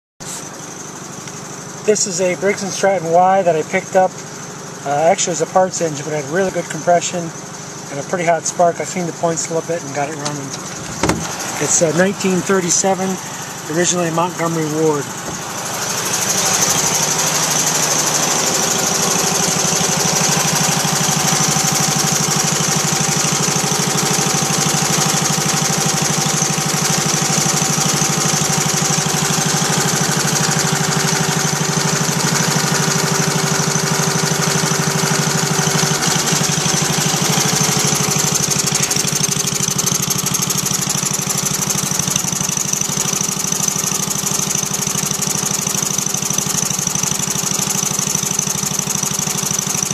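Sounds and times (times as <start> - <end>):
small engine running steadily: 0.2 - 49.9.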